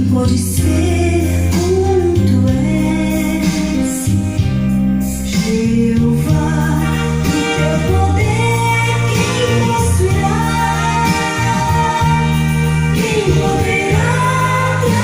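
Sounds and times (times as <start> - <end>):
song over loudspeakers: 0.0 - 15.0.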